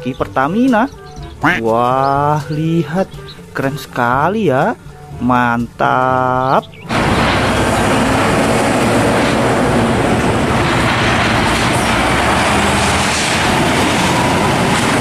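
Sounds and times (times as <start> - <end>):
truck diesel engine running: 0.0 - 15.0
tyre and traffic noise: 0.0 - 15.0.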